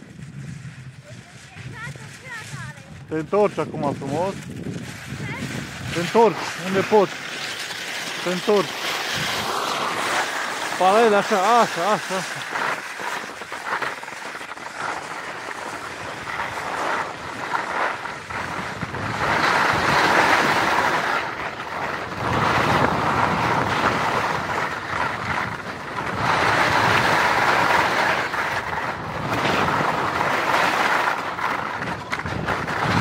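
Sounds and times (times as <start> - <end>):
skis scraping over snow: 0.0 - 33.0
wind on microphone: 0.0 - 33.0.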